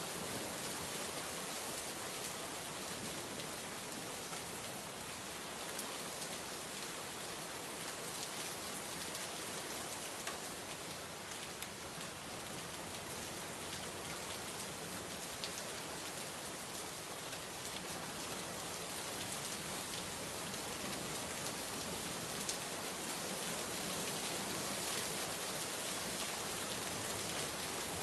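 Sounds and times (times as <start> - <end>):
steady rain hiss: 0.0 - 28.0
raindrops pattering on a surface: 1.7 - 28.0.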